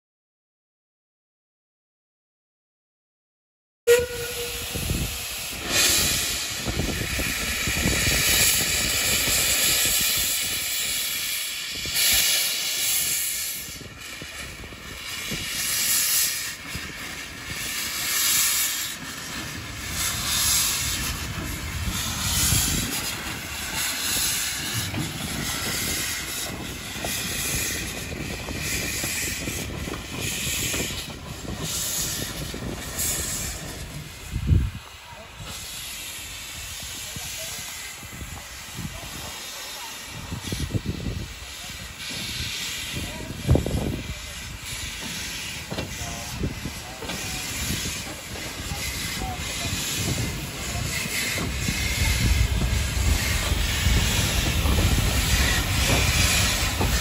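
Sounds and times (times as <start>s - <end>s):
steam hissing: 3.9s - 57.0s
steam locomotive chuffing: 3.9s - 57.0s.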